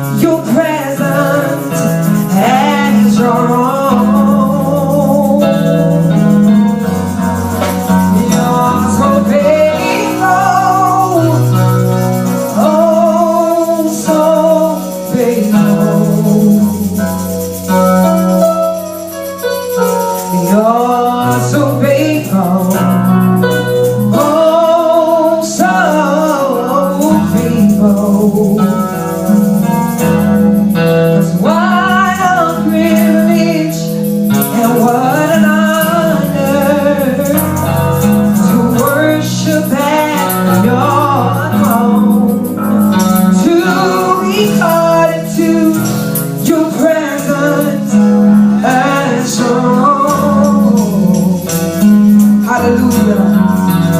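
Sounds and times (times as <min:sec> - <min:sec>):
bass and keyboard chords: 0:00.0 - 0:53.9
person singing: 0:00.0 - 0:53.9.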